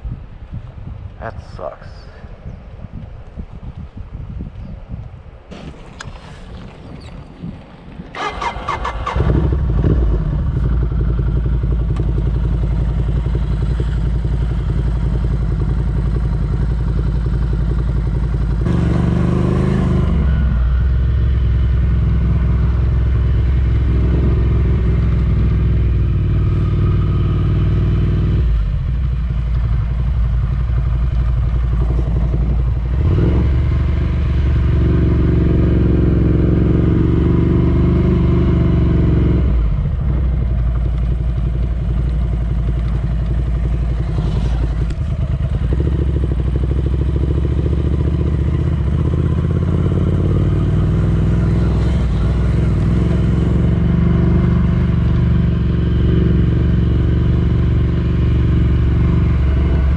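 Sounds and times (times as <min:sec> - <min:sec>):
motorcycle engine running: 0:08.2 - 0:59.9.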